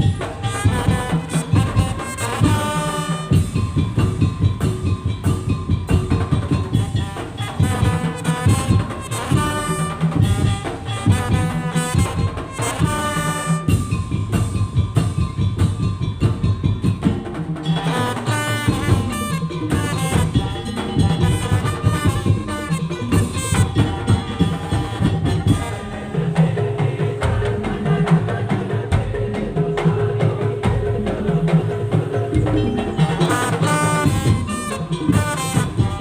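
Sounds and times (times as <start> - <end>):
driving drum and percussion rhythm: 0.0 - 36.0
wind instrument melody: 0.0 - 36.0.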